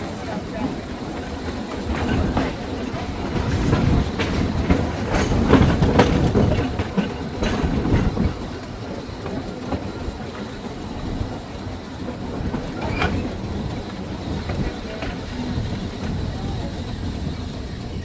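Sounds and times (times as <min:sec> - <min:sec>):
trolley car rumbling: 0:00.0 - 0:18.0
wheels clicking over rail joints: 0:00.0 - 0:18.0.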